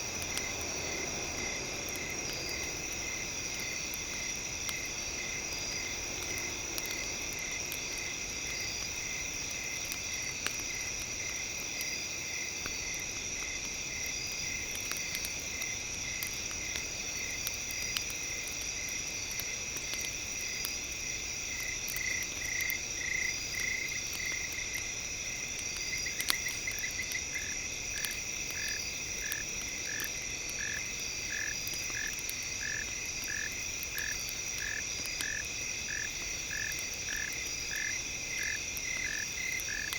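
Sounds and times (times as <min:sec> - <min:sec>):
faint campfire crackles: 0:00.0 - 0:39.9
insects trilling: 0:00.0 - 0:39.9.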